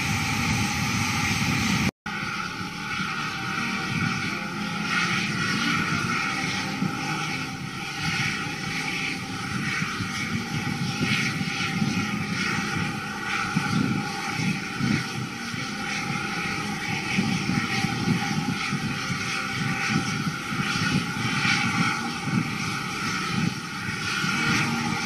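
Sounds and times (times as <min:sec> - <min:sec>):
aircraft engine running: 0:00.0 - 0:25.0
faint steady whine: 0:00.0 - 0:25.0.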